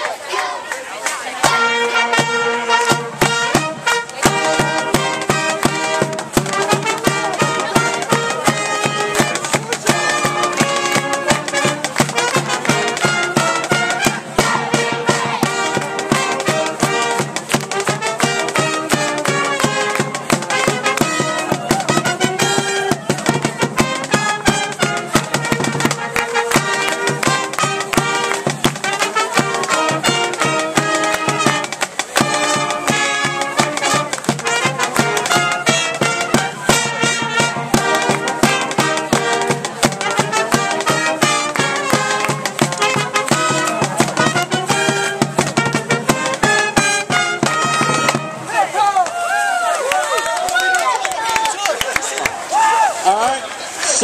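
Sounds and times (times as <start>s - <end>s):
pep band brass playing: 1.3s - 49.0s
steady drum beat: 1.4s - 49.0s.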